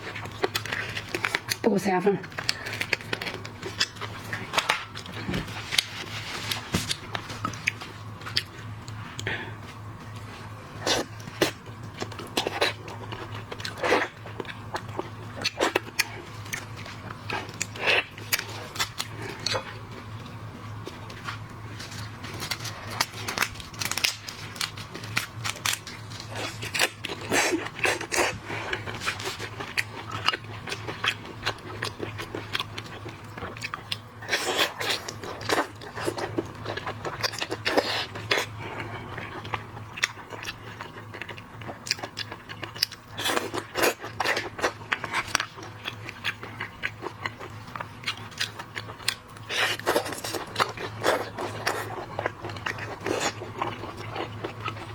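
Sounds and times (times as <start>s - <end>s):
chewing and crunching seafood: 0.0s - 54.9s.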